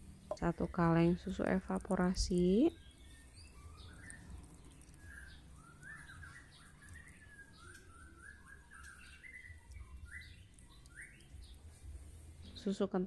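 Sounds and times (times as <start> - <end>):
faint birds chirping: 0.1 - 13.0.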